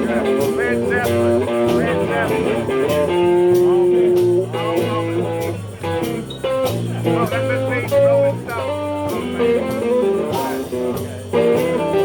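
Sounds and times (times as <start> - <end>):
blues band playing: 0.0 - 12.0
sliding bending lead guitar notes: 0.0 - 12.0.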